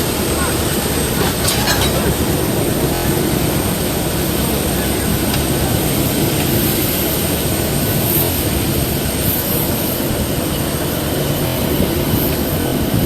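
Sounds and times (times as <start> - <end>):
airliner engines droning: 0.0 - 13.0.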